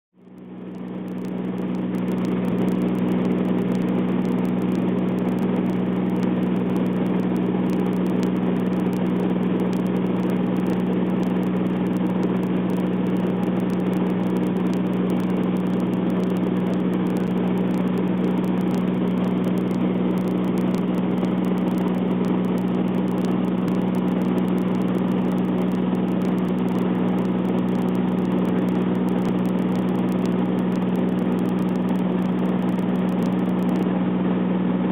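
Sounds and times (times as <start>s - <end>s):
airplane engine droning in cabin: 0.2s - 34.9s.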